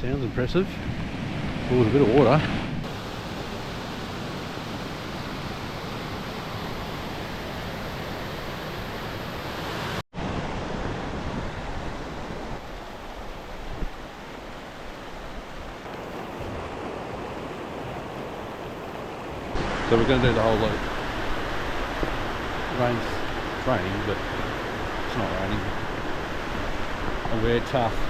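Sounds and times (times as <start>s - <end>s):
waterfall rushing: 2.9s - 10.8s, 11.5s - 28.0s.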